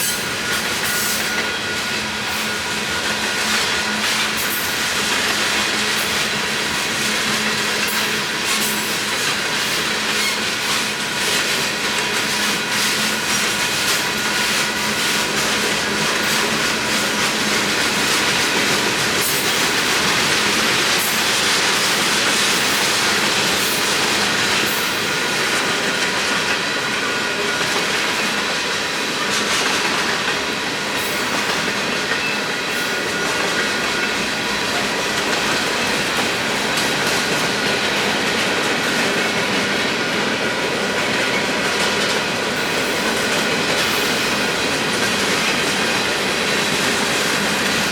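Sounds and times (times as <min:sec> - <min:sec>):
train wheels clacking over rail joints: 0:00.0 - 0:47.9.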